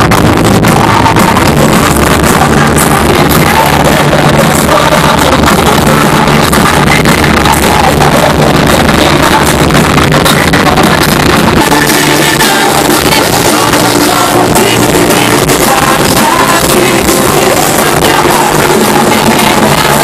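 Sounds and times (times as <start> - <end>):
live pop band music over sound system: 0.0 - 20.0.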